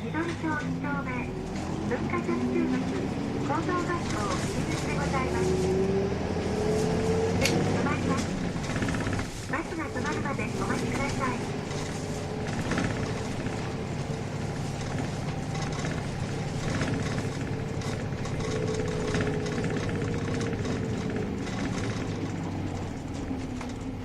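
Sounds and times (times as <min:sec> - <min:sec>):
bus diesel engine running: 0:00.0 - 0:24.0
drivetrain whine: 0:00.0 - 0:24.0
body rattles: 0:01.6 - 0:24.0.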